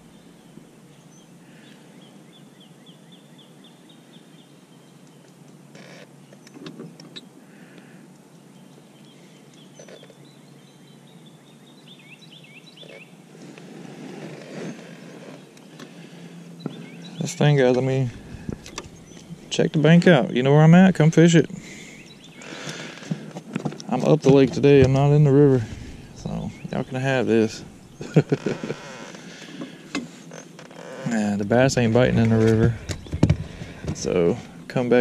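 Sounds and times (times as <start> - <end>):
birds chirping: 0.0 - 5.4, 6.1 - 13.2, 14.2 - 35.0.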